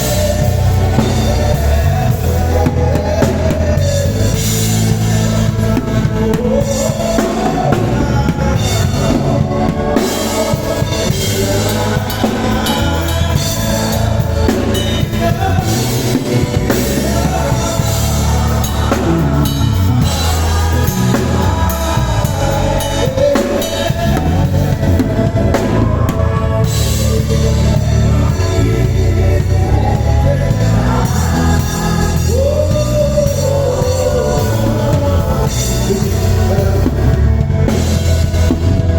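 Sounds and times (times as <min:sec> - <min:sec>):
bass: 0:00.0 - 0:38.9
drum kit: 0:00.0 - 0:38.9
guitar: 0:00.0 - 0:38.9
keyboards: 0:00.0 - 0:38.9
person singing: 0:00.0 - 0:38.9.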